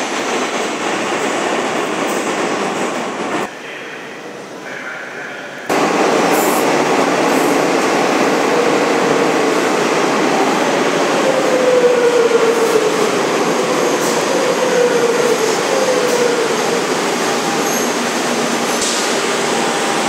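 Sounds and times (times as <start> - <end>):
train wheels rumbling on rails: 0.0 - 3.5, 5.7 - 20.0.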